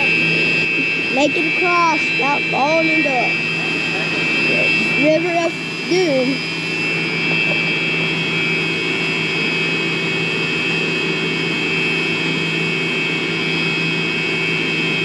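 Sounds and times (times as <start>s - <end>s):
irrigation pump engine drone: 0.0s - 15.0s.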